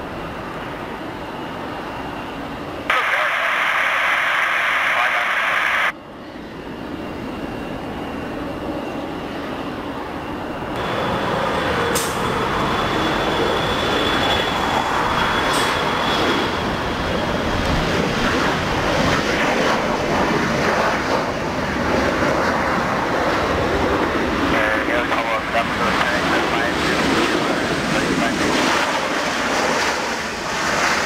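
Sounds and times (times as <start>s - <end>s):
high jet engine whine: 0.0s - 31.0s
jet engines roaring: 0.0s - 31.0s.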